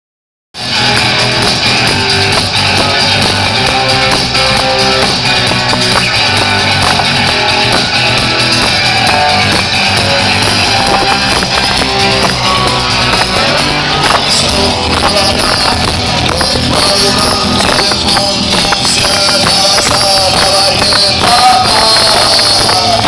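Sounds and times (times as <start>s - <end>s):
guitar-led rock music: 0.6s - 23.0s.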